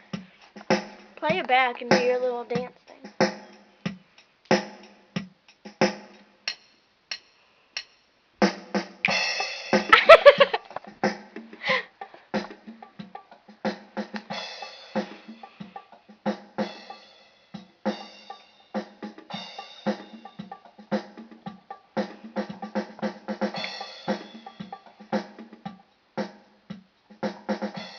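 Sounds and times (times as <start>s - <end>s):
electronic keyboard drum beats: 0.0s - 7.2s, 7.8s - 27.9s.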